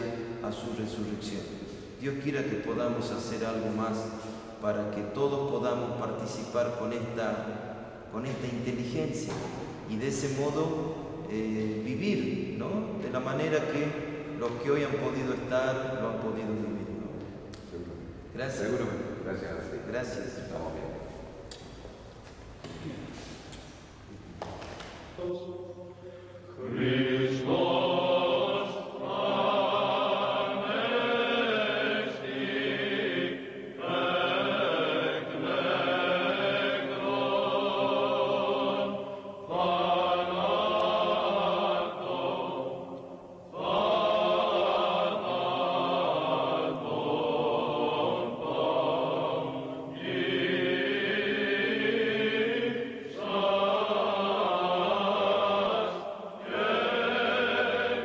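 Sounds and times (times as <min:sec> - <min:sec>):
voices singing liturgical chant: 0:00.0 - 0:58.0.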